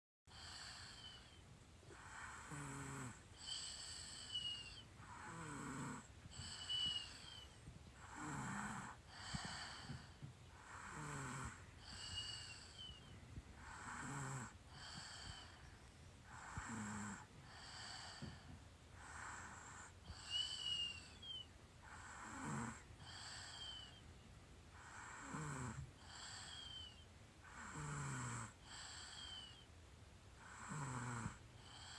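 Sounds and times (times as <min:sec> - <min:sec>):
baby snoring softly: 0:00.3 - 0:24.0, 0:24.7 - 0:29.7, 0:30.3 - 0:31.9.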